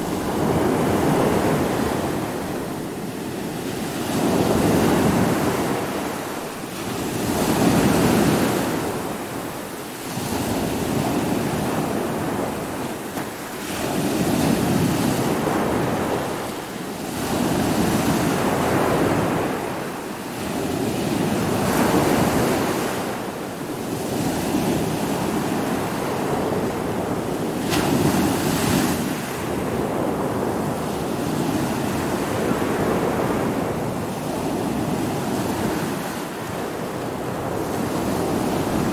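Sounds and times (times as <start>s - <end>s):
heavy waves breaking: 0.0s - 38.9s
wind: 0.0s - 38.9s.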